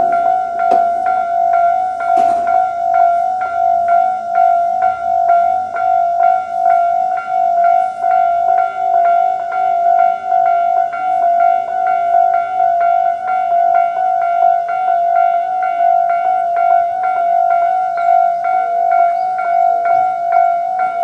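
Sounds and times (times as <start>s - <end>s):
level crossing warning bells: 0.0s - 21.0s.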